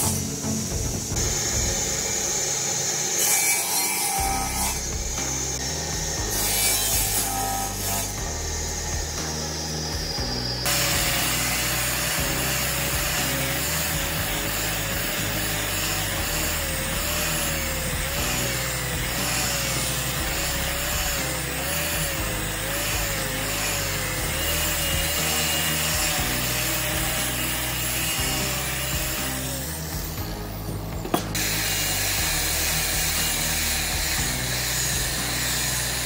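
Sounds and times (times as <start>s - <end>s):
background music: 0.0s - 36.0s
power tool working wood: 0.0s - 36.0s.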